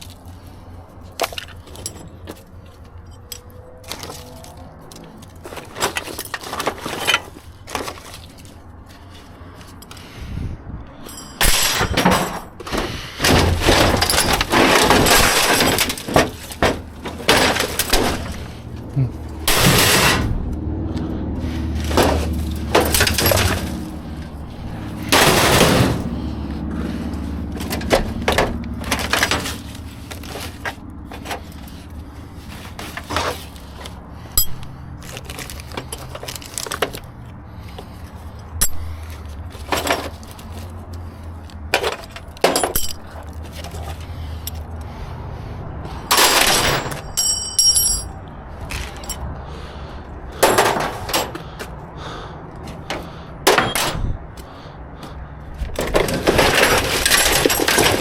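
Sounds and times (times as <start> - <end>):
scrap metal clanking and scraping: 0.0 - 10.2, 11.0 - 45.0, 45.8 - 49.3, 50.3 - 58.0.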